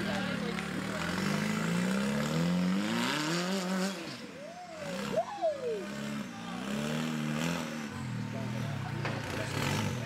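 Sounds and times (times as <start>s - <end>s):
buggy engine revving: 0.0s - 10.0s.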